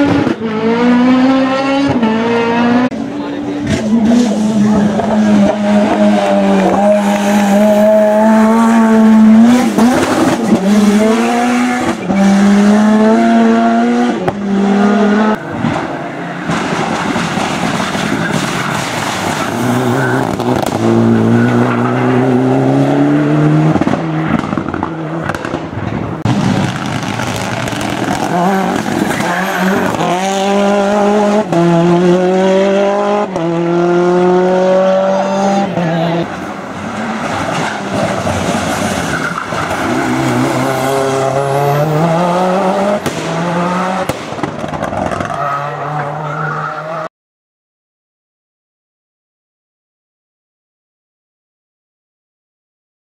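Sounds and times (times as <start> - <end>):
racing car engine revving: 0.0 - 16.0, 16.6 - 47.1.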